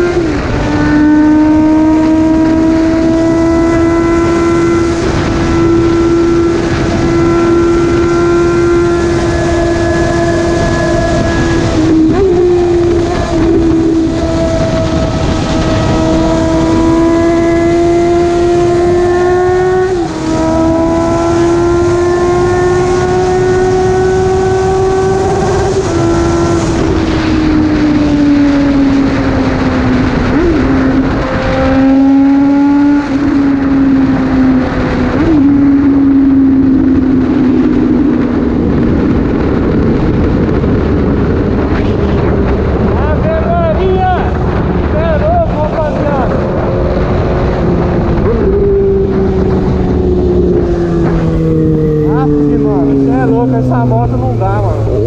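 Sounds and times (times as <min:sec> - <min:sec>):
motorcycle engine at high revs: 0:00.0 - 0:43.4, 0:44.4 - 0:55.0
wind rush: 0:00.0 - 0:55.0.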